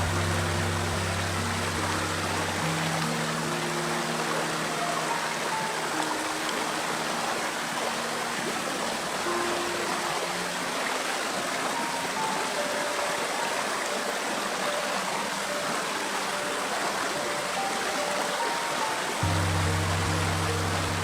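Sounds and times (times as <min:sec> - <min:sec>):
soft background music: 0:00.0 - 0:21.0
stream water rushing: 0:00.0 - 0:21.0.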